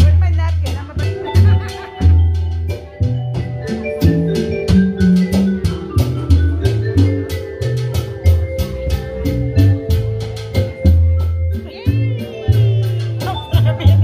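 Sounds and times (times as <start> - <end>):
drum kit and bass music: 0.0 - 14.0.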